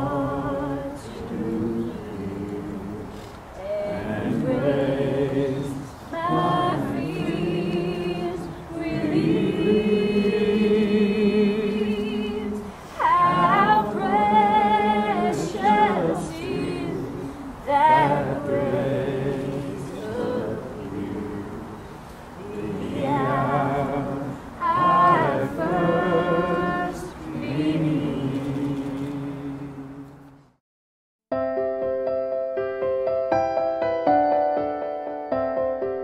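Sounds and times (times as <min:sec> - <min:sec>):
slow song with vibrato singing: 0:00.0 - 0:30.3.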